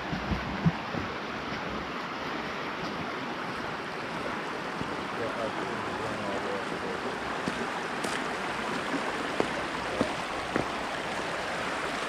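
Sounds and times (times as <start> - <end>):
river and waterfall rushing: 0.0 - 12.0.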